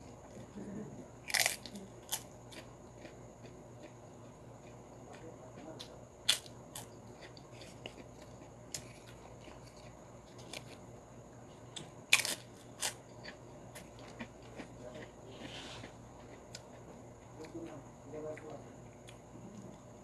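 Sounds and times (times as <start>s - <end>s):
crackers crunching while chewed: 0.0s - 11.0s, 11.6s - 20.0s.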